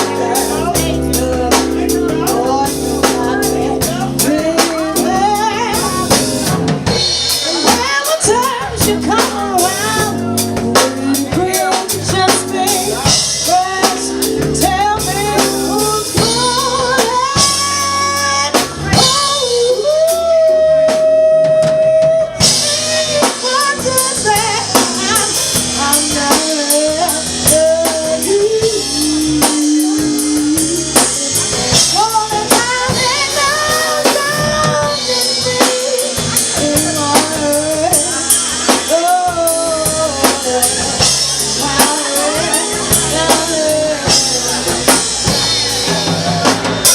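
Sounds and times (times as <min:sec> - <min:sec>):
bass: 0:00.0 - 0:46.9
drum kit: 0:00.0 - 0:46.9
person singing: 0:00.0 - 0:46.9.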